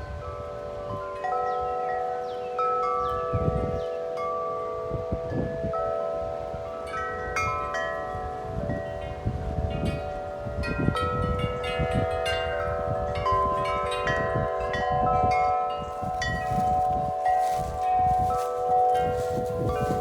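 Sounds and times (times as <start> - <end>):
tubular wind chimes ringing: 0.0 - 20.0
wind buffeting microphone: 0.0 - 20.0.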